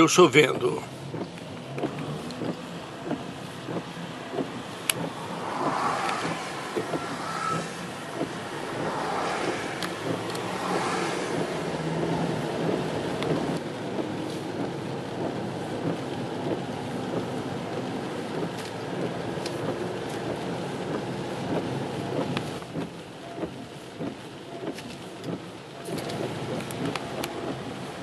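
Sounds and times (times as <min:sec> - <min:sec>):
road and engine hiss: 0:00.0 - 0:28.0.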